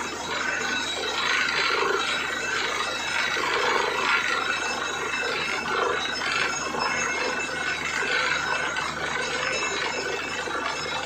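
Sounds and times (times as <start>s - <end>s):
drilling rig running: 0.0s - 11.0s.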